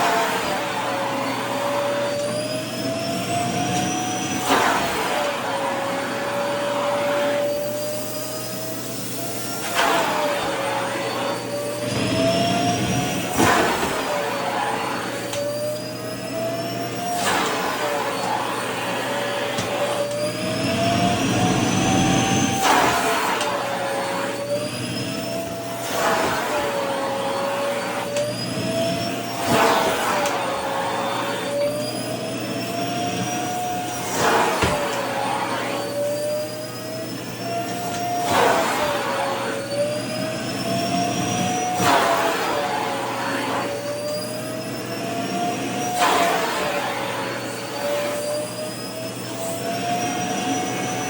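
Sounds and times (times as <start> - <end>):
vacuum cleaner motor whine: 0.0 - 51.0.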